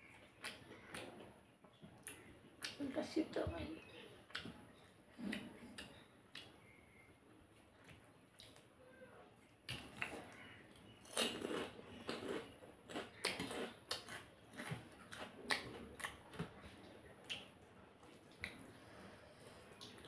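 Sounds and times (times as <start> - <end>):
person chewing with wet smacks: 0.0 - 3.0, 4.2 - 8.8, 9.4 - 20.0.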